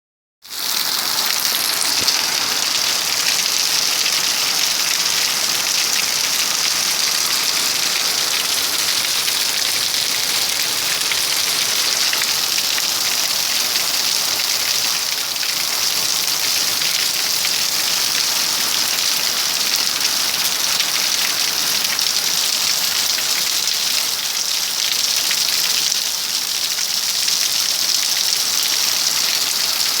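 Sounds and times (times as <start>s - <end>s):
rain falling steadily: 0.5s - 30.0s.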